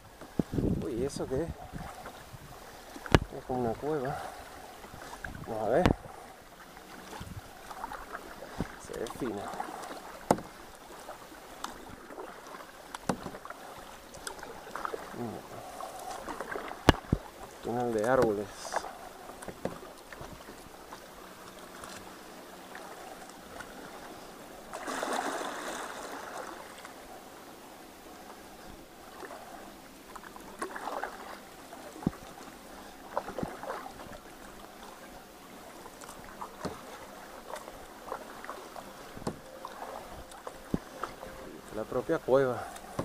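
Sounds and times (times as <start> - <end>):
paddle dipping and dripping: 0.0 - 43.0
rush of water: 0.0 - 43.0.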